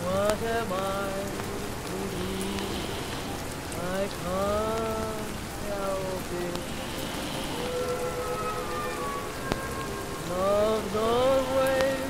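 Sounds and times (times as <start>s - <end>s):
rain pattering: 0.0s - 12.0s
voice crooning long notes: 0.9s - 12.0s.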